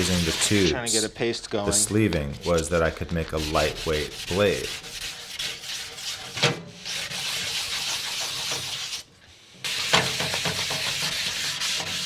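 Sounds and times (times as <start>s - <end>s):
sandpaper scratching by hand: 0.0s - 0.8s, 1.8s - 12.0s.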